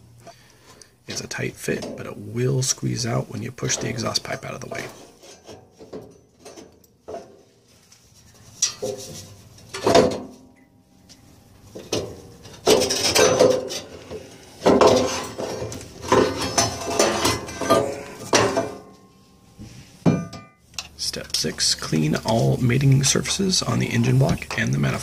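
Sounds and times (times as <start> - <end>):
metal clanking and scraping: 3.6 - 10.7, 11.7 - 25.0.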